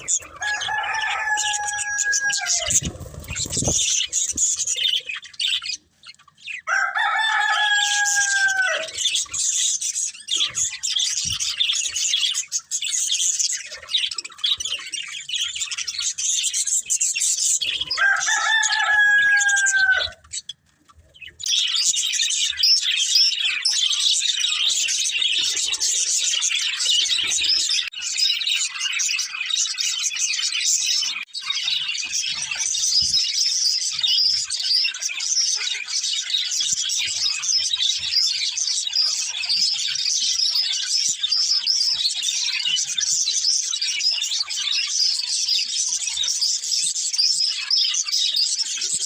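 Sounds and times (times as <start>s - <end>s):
budgies chirping and warbling: 0.0s - 49.0s.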